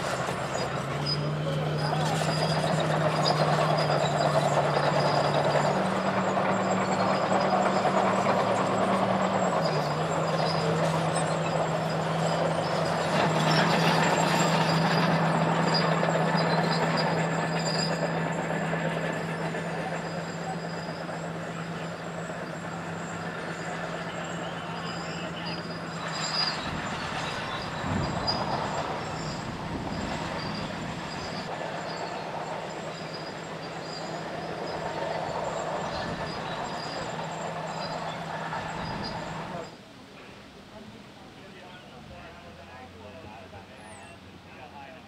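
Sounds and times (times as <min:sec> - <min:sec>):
heavy diesel engine running: 0:00.0 - 0:39.8.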